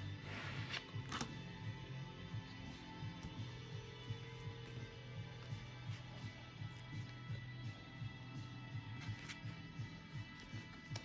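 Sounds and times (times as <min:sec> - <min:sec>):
background music with pulsing bass: 0:00.0 - 0:11.0.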